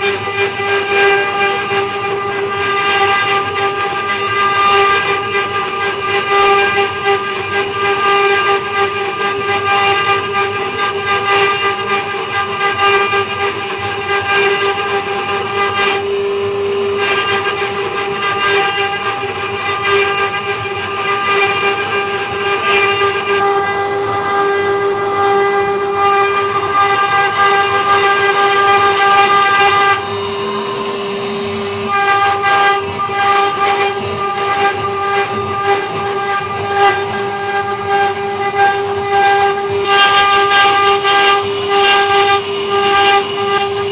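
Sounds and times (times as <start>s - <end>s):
cnc router spindle whine: 0.0s - 43.9s
router bit cutting wood: 0.0s - 43.9s.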